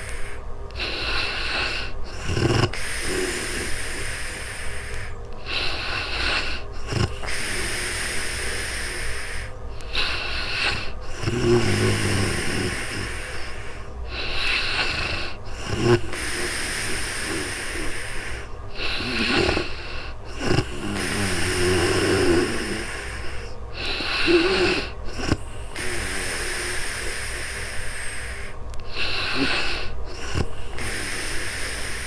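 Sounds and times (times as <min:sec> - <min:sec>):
slow breaths: 0:00.0 - 0:32.0
woman snoring: 0:00.0 - 0:32.0.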